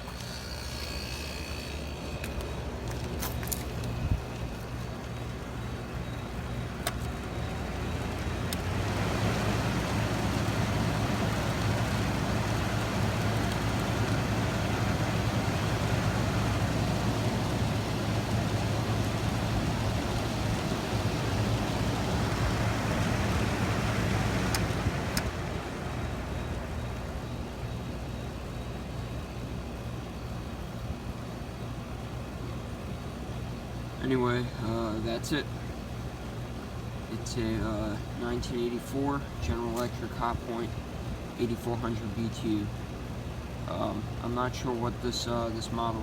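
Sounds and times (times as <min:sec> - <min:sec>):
air conditioner humming: 0:00.0 - 0:46.0.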